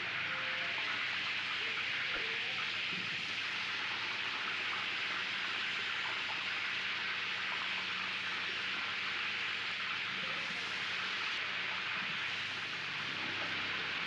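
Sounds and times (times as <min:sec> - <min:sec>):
food deep-frying in hot oil: 0:00.0 - 0:14.0.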